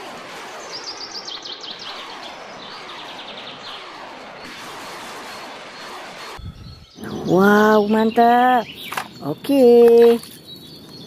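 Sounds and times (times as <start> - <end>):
outdoor background noise: 0.0 - 11.0
small birds chirping: 0.6 - 4.6, 5.2 - 11.0.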